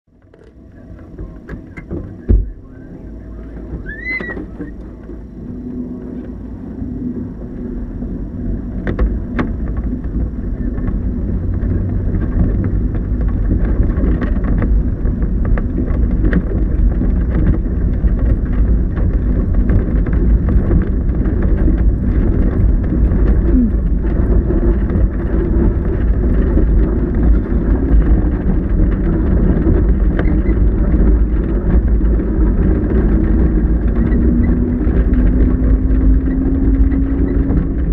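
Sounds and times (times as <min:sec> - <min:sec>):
rolling and wind noise: 0:00.1 - 0:37.9.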